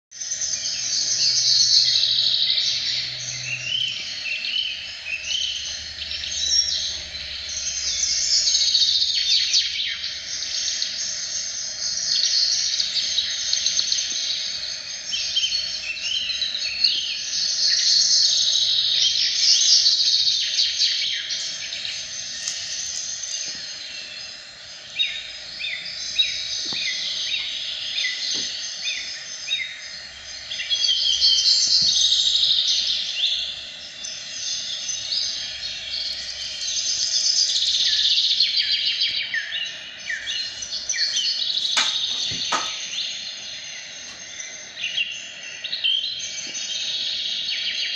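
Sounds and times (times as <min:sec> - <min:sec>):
birds chirping: 0:00.1 - 0:47.9
faint steady drone: 0:00.2 - 0:47.9.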